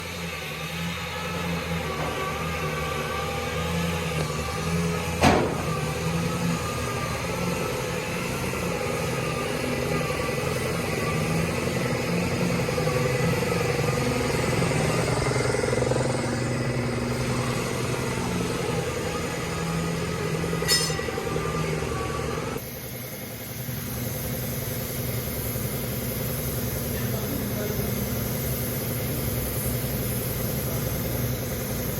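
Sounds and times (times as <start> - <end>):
truck engine running: 0.0 - 31.9.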